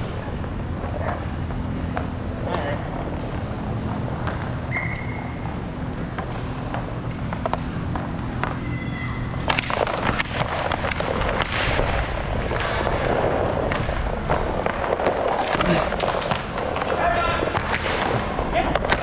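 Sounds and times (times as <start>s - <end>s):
hockey sticks and puck clacking: 0.0s - 19.0s
skate wheels rumbling: 0.0s - 19.0s.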